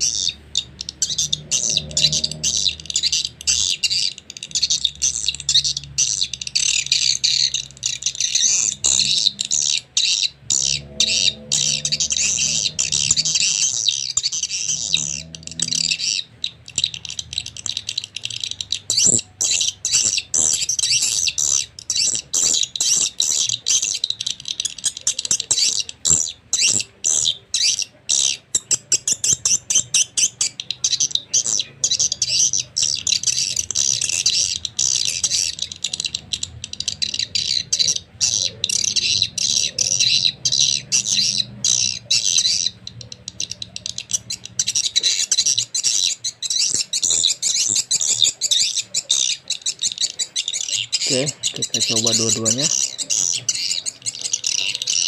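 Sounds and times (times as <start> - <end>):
high-pitched bird chirping: 0.0 - 55.0.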